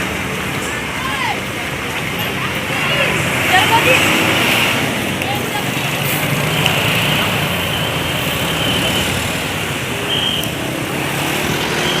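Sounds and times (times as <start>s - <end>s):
traffic running past: 0.0s - 12.0s.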